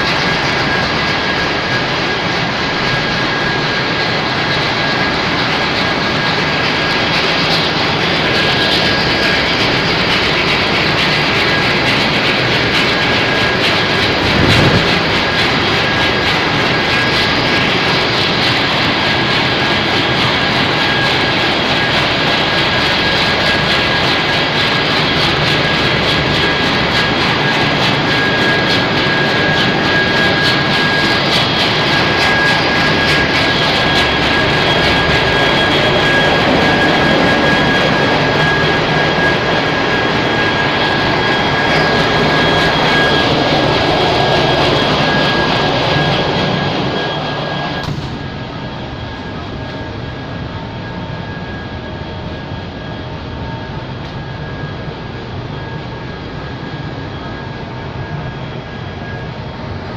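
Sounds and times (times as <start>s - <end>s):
engine room machinery roar: 0.0s - 59.9s
high-pitched whine: 0.0s - 59.9s.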